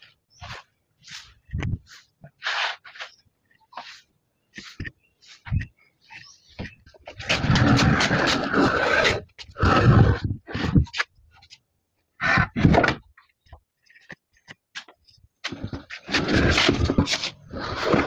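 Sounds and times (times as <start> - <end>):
wooden blocks scraping on concrete: 0.4 - 11.2, 13.8 - 18.0.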